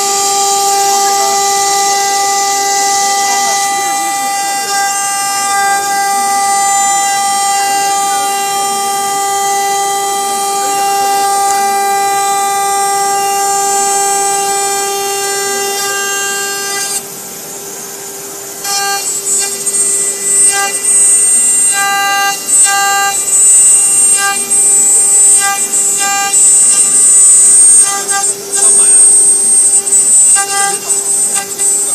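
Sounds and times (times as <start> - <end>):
bit cutting plastic: 0.0 - 17.1, 18.6 - 31.9
router spindle whining: 0.0 - 31.9.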